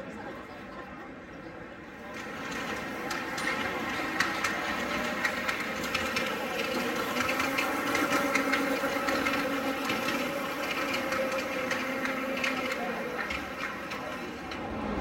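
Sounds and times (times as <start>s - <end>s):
busy hall background din: 0.0s - 15.0s
miniature locomotive motor hum: 2.0s - 15.0s.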